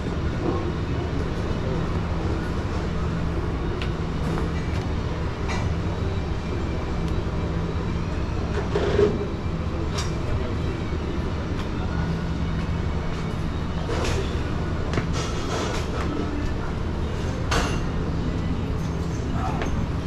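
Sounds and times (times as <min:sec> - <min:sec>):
gym background hum: 0:00.0 - 0:20.0.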